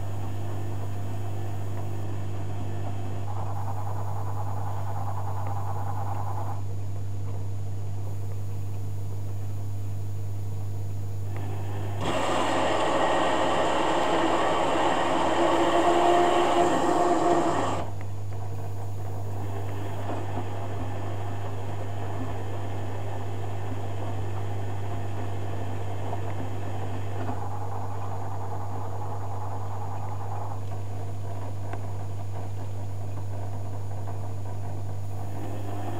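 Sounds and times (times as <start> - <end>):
washing machine hum: 0.0 - 9.7, 10.6 - 35.9.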